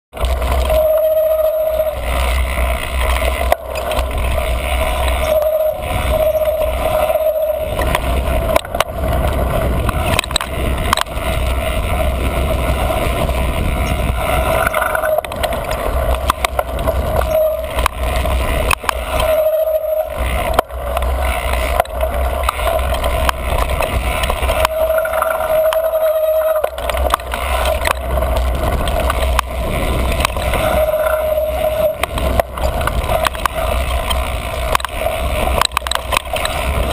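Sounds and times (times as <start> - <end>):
wind and tyre rumble: 0.1 - 36.9
bicycle brake squealing: 0.2 - 36.9
bike knocks and rattles: 2.0 - 36.9.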